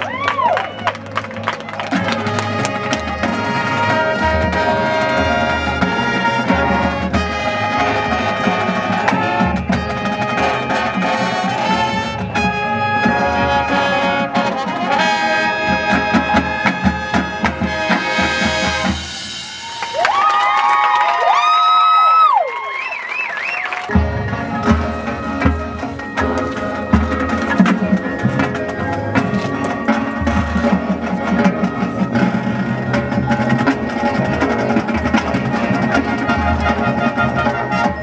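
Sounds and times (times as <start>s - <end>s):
brass section playing: 0.0s - 20.1s, 23.6s - 38.0s
snare and bass drums: 0.0s - 20.1s, 23.9s - 38.0s.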